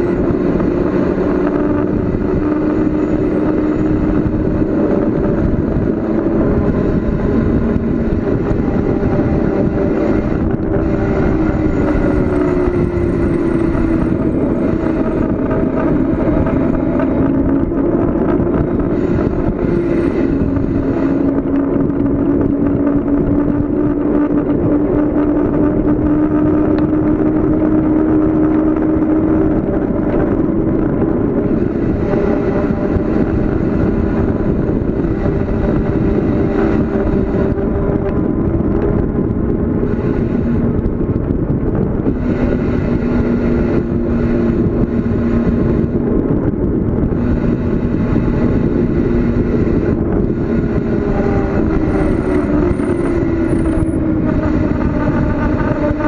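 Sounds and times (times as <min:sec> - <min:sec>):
low hum dropping in pitch: 0:00.0 - 0:56.0
wind rushing over microphone: 0:00.0 - 0:56.0.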